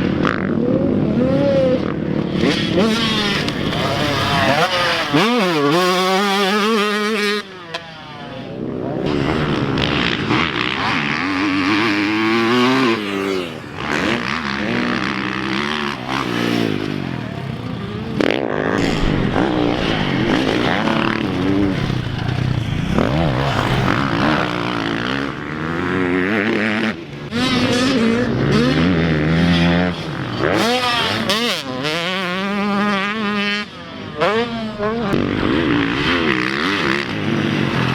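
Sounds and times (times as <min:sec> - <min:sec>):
dirt bike engines revving: 0:00.0 - 0:37.9.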